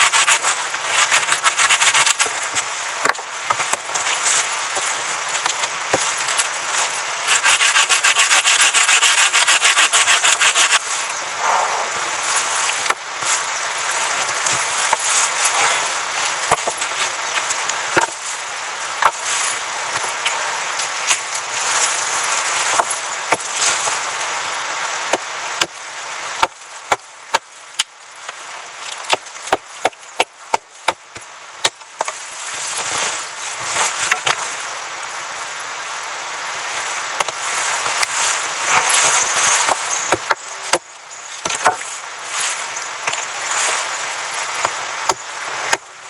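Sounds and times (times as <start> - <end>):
rustling hiss: 0.0 - 46.0.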